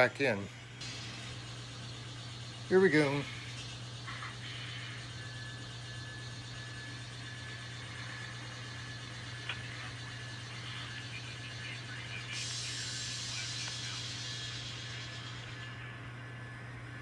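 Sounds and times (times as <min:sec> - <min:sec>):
model locomotive hum and whine: 0:00.0 - 0:17.0
hiss: 0:00.8 - 0:06.2, 0:07.4 - 0:17.0.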